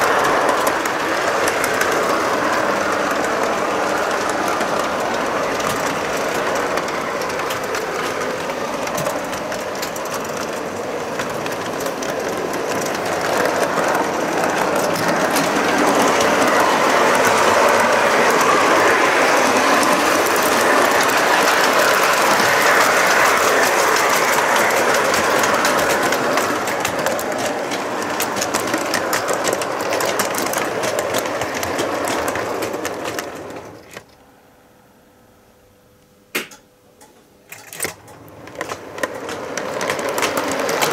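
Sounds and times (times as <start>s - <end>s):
model train rattling on metal track: 0.0s - 34.1s, 37.5s - 40.9s.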